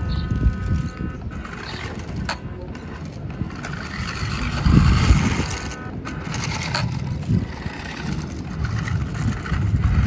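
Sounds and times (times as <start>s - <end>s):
small electric motor whine: 0.0s - 10.0s.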